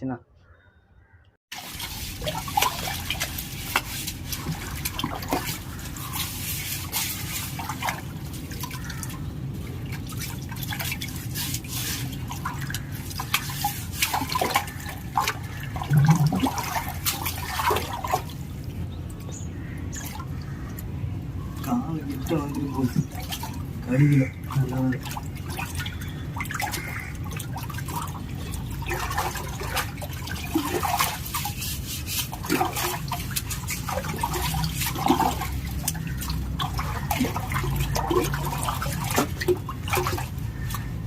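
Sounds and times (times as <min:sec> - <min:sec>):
water splashing in fish tank: 0:01.5 - 0:41.0.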